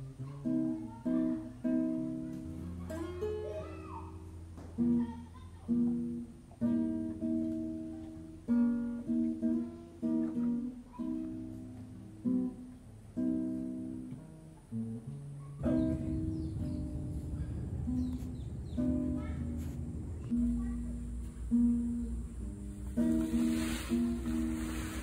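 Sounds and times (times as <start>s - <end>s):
acoustic guitar picking: 0.0s - 25.0s.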